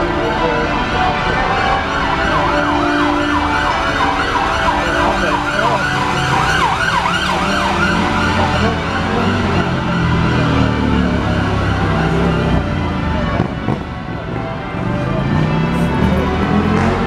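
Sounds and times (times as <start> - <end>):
church bells ringing: 0.0 - 17.0
siren yelping: 0.0 - 17.0.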